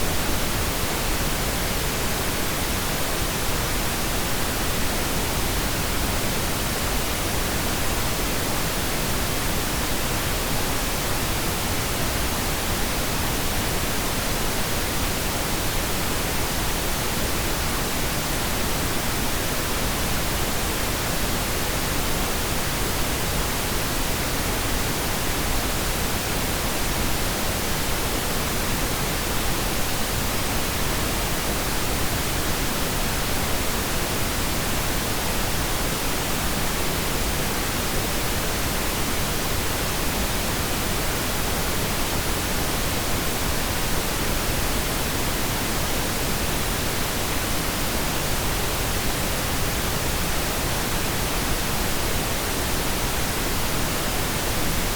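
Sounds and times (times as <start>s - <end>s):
steady pink noise hiss: 0.0s - 54.9s.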